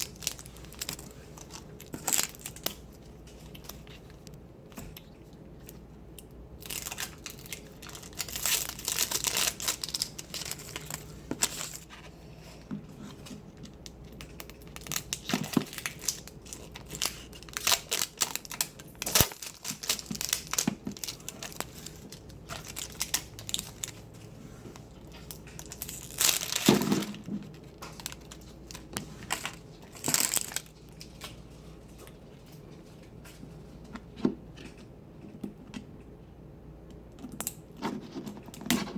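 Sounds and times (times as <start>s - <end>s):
plastic packaging crinkling and tearing: 0.0s - 5.8s, 6.6s - 33.5s.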